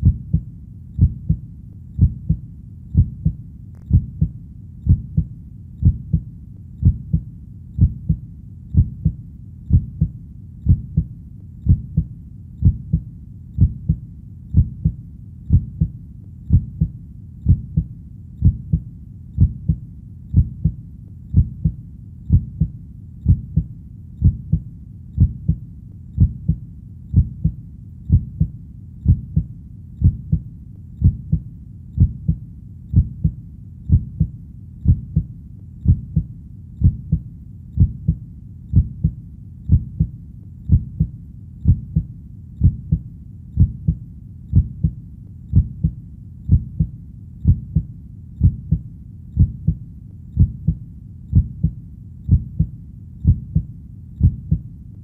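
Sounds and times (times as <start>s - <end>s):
heartbeat thumping: 0.0s - 25.6s, 26.2s - 54.7s.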